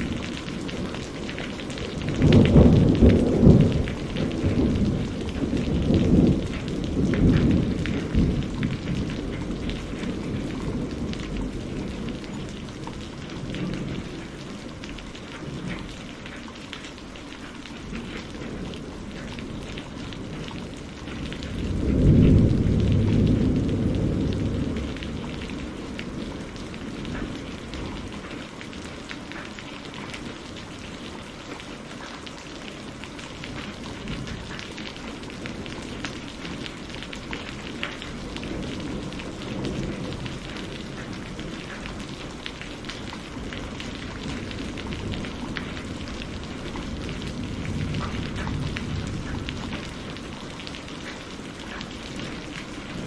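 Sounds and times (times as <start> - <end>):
thunder rumbling: 0.0 - 16.6, 17.7 - 31.6, 32.6 - 53.0
rain falling: 0.0 - 53.0.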